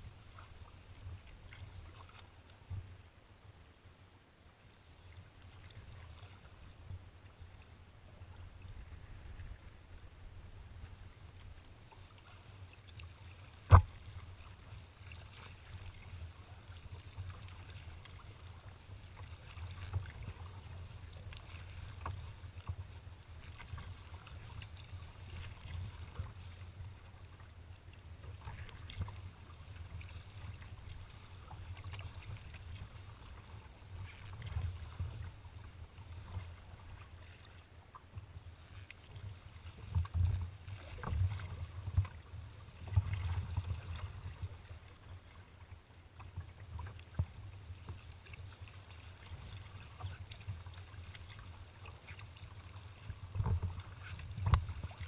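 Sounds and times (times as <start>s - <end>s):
water splashing against kayak hull: 5.1s - 55.0s.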